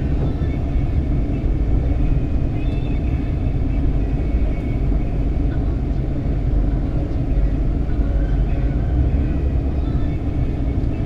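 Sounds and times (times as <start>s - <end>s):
low rumble of vehicles: 0.0s - 11.0s.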